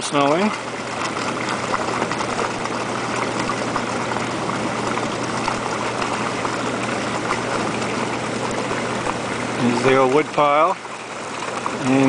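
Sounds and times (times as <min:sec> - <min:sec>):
hot tub pump humming: 0:00.0 - 0:12.0
water bubbling from jets: 0:00.0 - 0:12.0.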